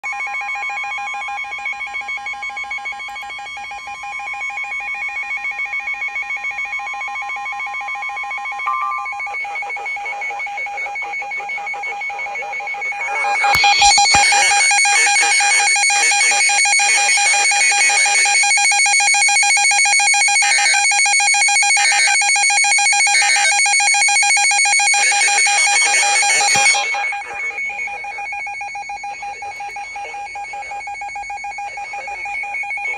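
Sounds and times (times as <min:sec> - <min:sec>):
pulsing electronic alarm: 0:00.0 - 0:32.9.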